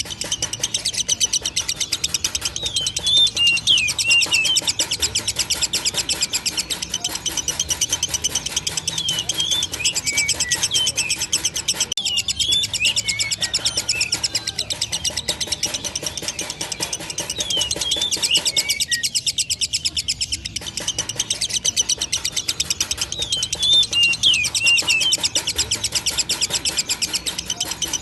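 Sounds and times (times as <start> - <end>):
bird rattling trill: 0.0 - 28.0.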